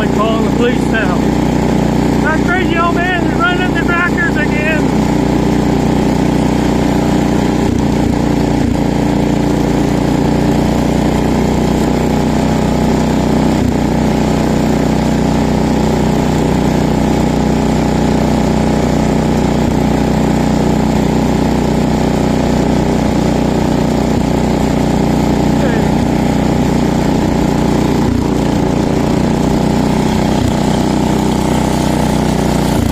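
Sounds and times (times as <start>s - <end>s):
garden tractor engine running: 0.0s - 32.9s.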